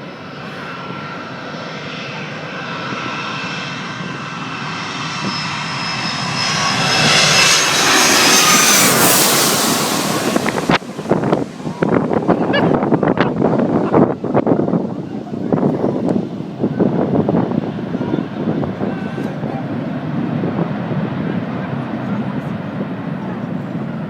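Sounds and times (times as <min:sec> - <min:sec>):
jet airliner passing overhead: 0:00.0 - 0:24.0
wind buffeting on microphone: 0:02.6 - 0:24.0.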